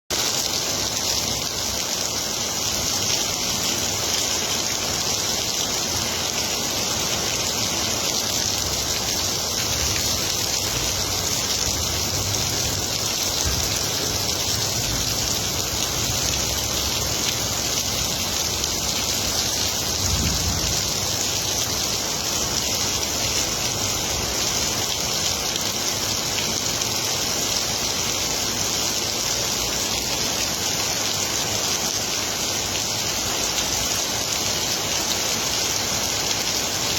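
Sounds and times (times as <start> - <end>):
heavy rain: 0.1 - 36.9.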